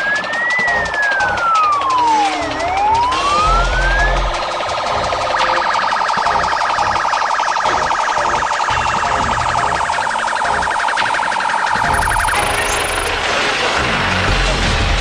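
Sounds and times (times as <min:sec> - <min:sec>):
police siren warbling: 0:00.0 - 0:13.8.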